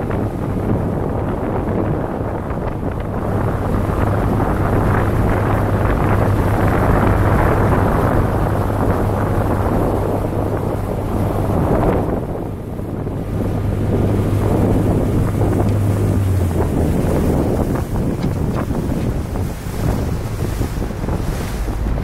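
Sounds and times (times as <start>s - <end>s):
boat engine humming: 0.0s - 22.0s
water rushing past hull: 0.0s - 22.0s
wind buffeting microphone: 0.0s - 22.0s.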